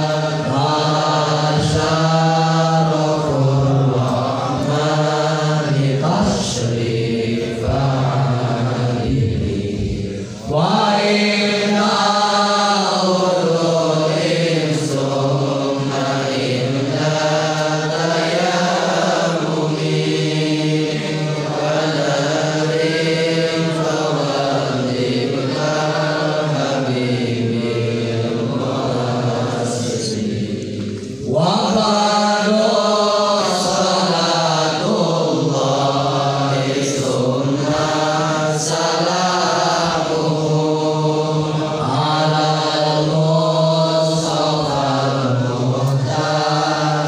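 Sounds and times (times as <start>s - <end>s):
person chanting devotional verse: 0.0s - 47.0s.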